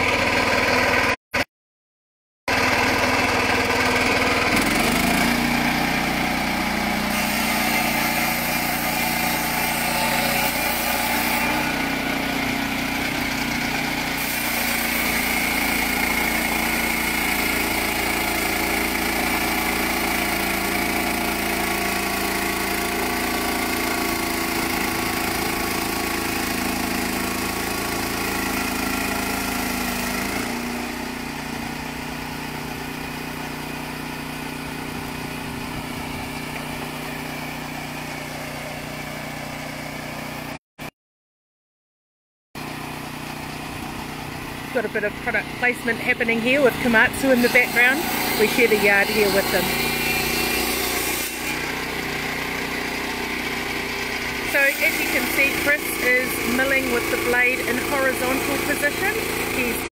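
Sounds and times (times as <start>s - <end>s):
sawmill engine running: 0.0s - 1.2s, 2.5s - 40.6s, 42.6s - 59.9s.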